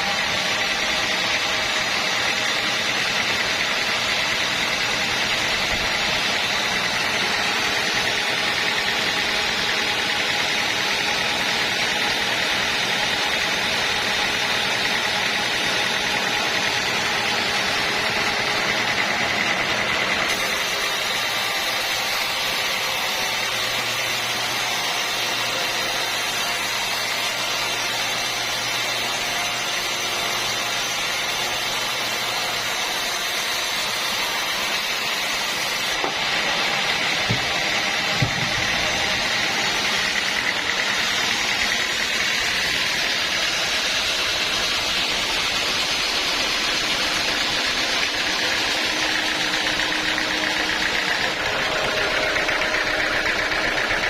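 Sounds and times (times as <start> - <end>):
machinery droning with whine: 0.0 - 54.0.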